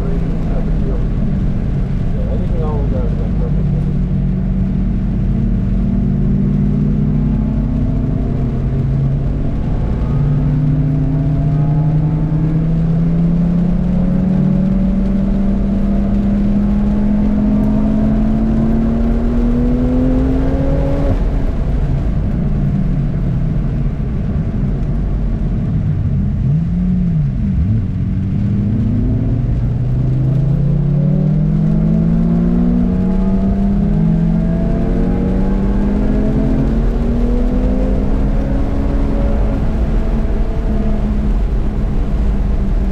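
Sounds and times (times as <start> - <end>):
race car engine revving: 0.0 - 23.2, 26.3 - 42.9
road and tyre rumble: 0.0 - 42.9.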